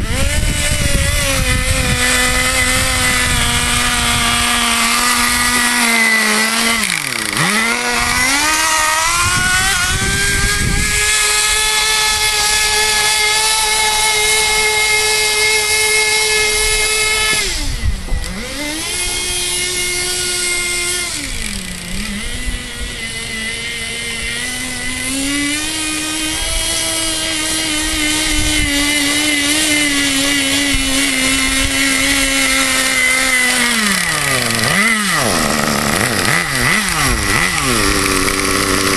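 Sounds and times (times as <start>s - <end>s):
small model engine revving: 0.0s - 38.9s.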